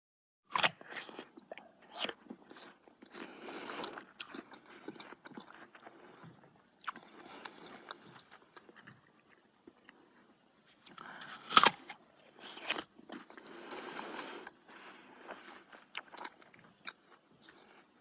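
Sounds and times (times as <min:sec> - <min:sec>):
person chewing crunchy food: 0:00.5 - 0:18.0.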